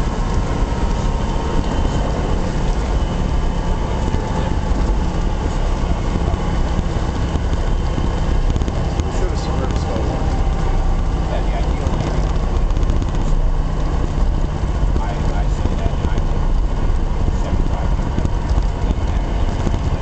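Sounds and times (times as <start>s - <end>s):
small plane engine idling: 0.0s - 20.0s.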